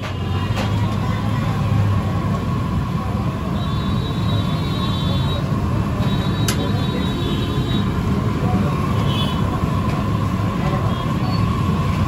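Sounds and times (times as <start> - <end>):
rumbling sizzle of frying oil: 0.0 - 12.0.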